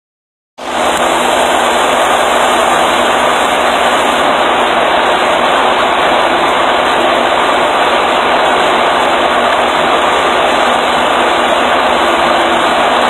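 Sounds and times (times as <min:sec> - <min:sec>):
loud rushing noise: 0:00.6 - 0:13.0.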